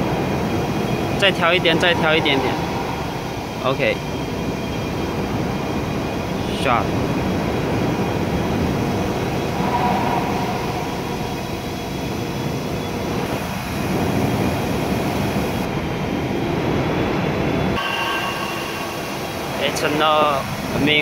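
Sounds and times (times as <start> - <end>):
pump unit running: 0.0 - 17.2, 17.8 - 21.0.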